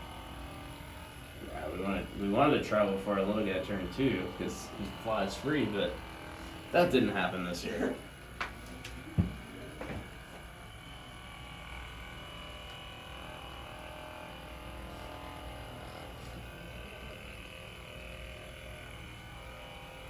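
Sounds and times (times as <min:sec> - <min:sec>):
massage gun motor hum and whine: 0:00.0 - 0:20.0.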